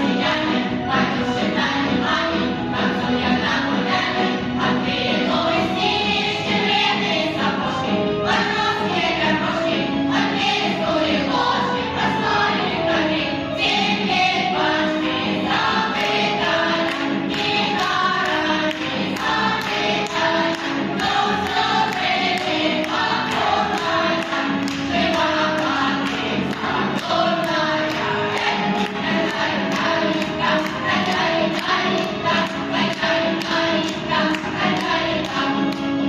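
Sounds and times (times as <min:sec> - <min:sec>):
group of voices singing: 0:00.0 - 0:36.0.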